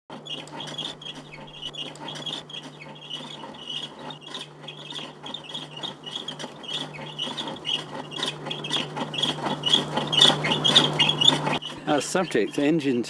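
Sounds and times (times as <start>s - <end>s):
cutting tool scraping spinning wood: 0.1s - 13.0s.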